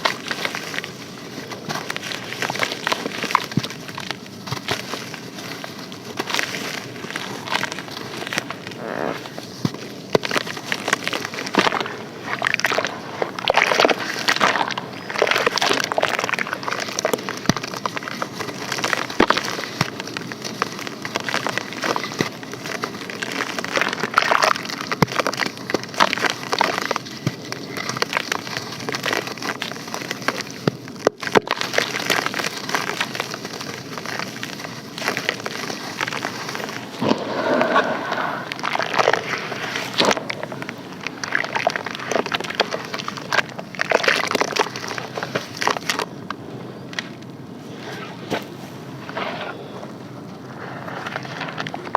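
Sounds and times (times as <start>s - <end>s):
sand and charcoal crumbling: 0.0s - 46.2s, 46.8s - 51.9s.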